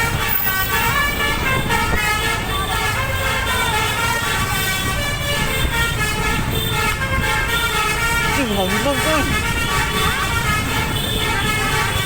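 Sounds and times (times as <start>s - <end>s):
bus air horn playing tune: 0.0s - 12.0s
engine and road rumble: 0.0s - 12.0s.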